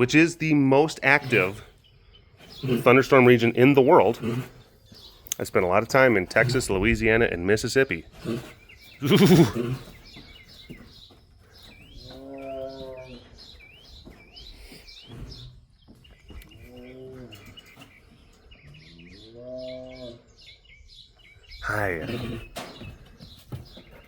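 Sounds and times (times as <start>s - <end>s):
small birds chirping: 0.0s - 24.0s
animal lowing: 2.4s - 20.4s, 21.6s - 23.9s.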